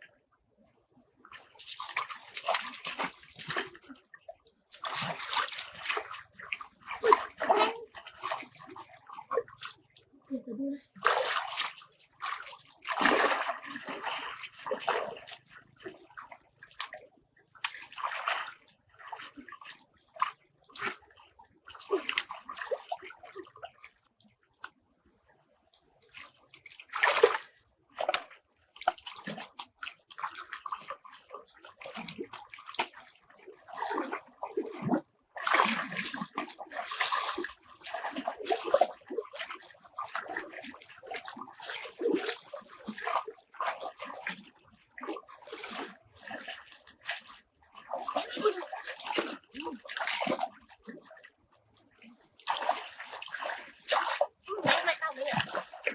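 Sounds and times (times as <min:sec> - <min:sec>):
water sloshing and splashing: 0:01.2 - 0:55.9.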